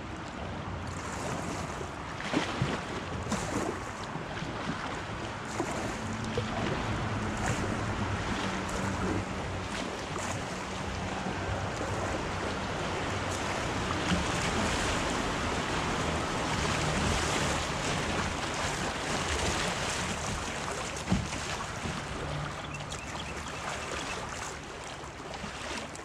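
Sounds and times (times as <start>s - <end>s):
wind rumbling on microphone: 0.0s - 24.4s
river water rushing: 0.0s - 26.0s
water splashing against kayak: 0.0s - 26.0s.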